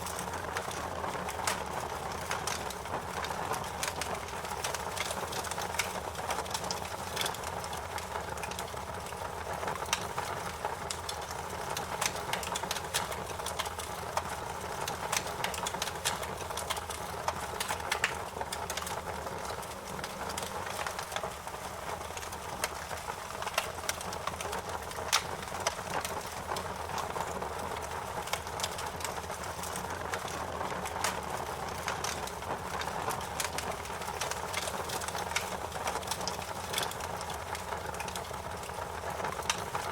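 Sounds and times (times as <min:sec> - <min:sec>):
burning wood popping and snapping: 0:00.0 - 0:39.9
campfire crackling: 0:00.0 - 0:39.9.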